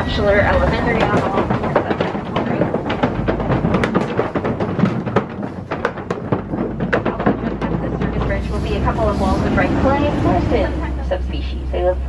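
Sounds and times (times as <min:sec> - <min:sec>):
low steady rumble: 0:00.0 - 0:12.0
tyres knocking over bridge deck: 0:00.0 - 0:12.0.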